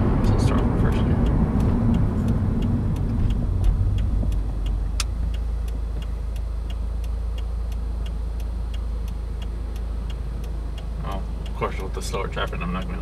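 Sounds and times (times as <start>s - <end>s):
engine and road hum: 0.0s - 13.0s
turn signal clicking: 0.2s - 13.0s.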